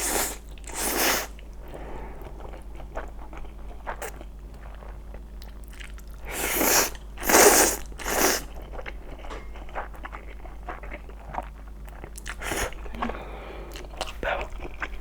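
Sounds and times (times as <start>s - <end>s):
mouth chewing: 2.2s - 15.0s.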